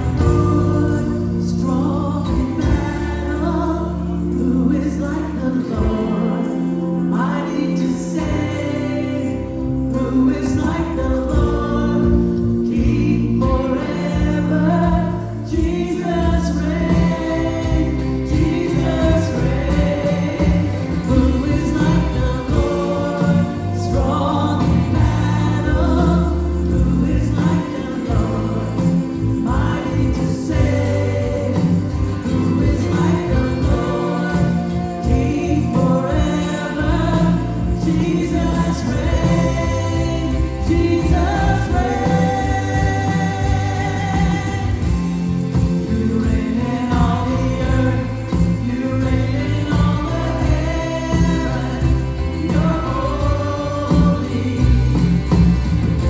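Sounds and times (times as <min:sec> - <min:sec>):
bass: 0:00.0 - 0:56.0
gospel choir singing: 0:00.0 - 0:56.0
keyboard: 0:00.0 - 0:56.0.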